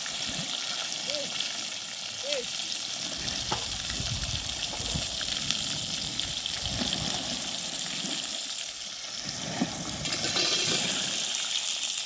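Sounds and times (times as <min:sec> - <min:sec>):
hot oil sizzling in a pan: 0:00.0 - 0:12.0.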